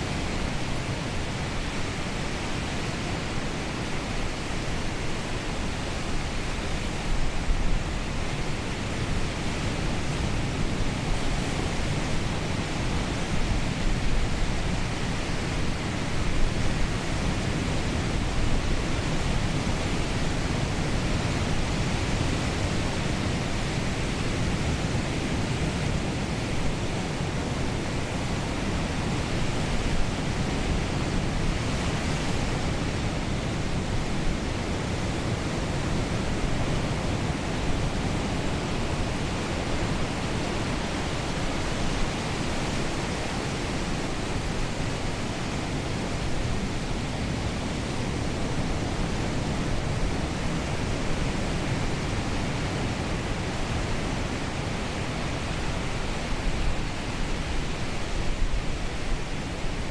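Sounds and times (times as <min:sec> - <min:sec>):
ocean surf: 0:00.0 - 0:59.9
wind: 0:00.0 - 0:59.9.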